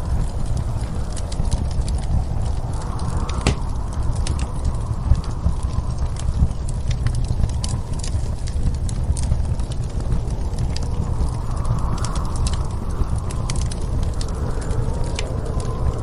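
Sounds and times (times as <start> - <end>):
fireplace crackling and popping: 0.0 - 16.0
low rumble of wind: 0.0 - 16.0.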